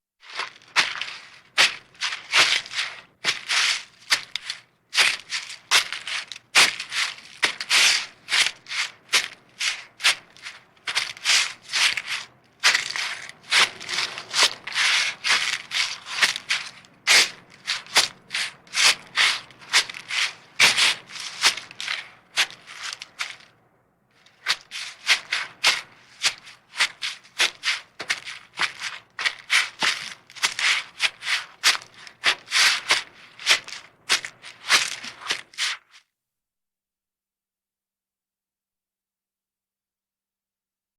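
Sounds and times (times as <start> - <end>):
footsteps on dry forest floor: 0.2 - 23.5, 24.2 - 35.9.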